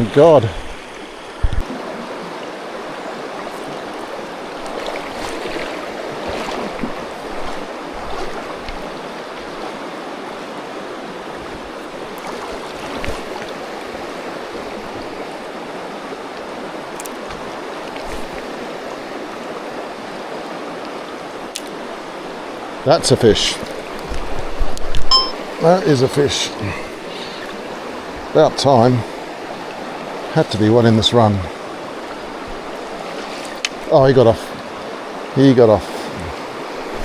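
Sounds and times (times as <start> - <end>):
river rushing over its bed: 0.0 - 37.0.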